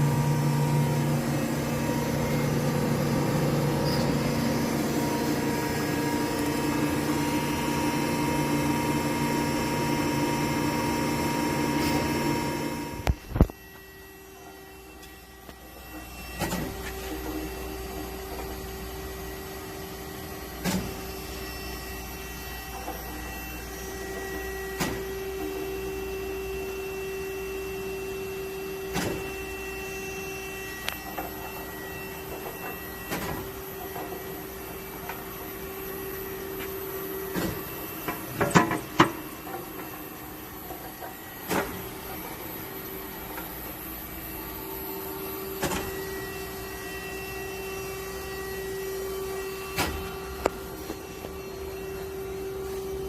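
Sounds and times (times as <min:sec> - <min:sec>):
grinding machine humming: 0:00.0 - 0:53.0.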